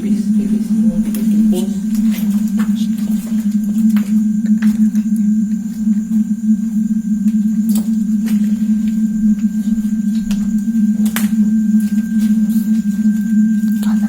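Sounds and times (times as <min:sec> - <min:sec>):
loud steady low hum: 0:00.0 - 0:14.0.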